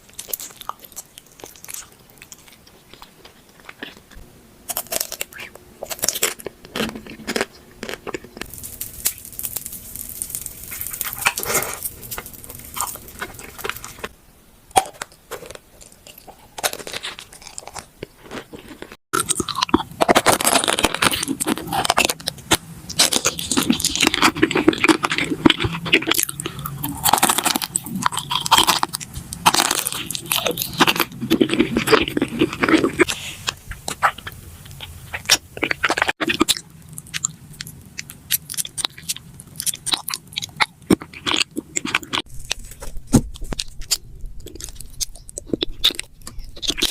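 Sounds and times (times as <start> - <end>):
crunchy chewing of food: 0.0 - 46.9.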